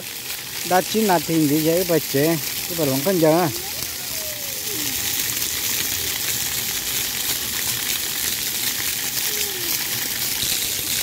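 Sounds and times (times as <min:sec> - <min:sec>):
water jets splashing on concrete: 0:00.0 - 0:11.0.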